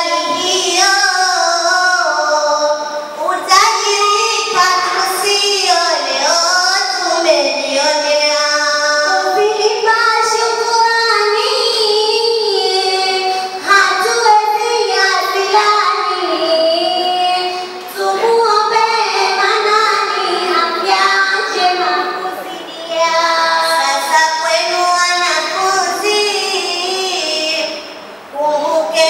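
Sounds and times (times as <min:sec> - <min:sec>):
girls chanting sung verse: 0:00.0 - 0:29.0.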